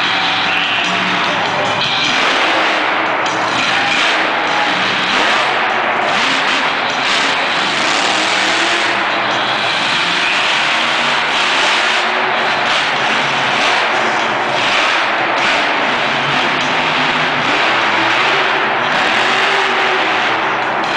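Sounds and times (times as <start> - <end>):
monster truck engine revving: 0.0 - 20.9.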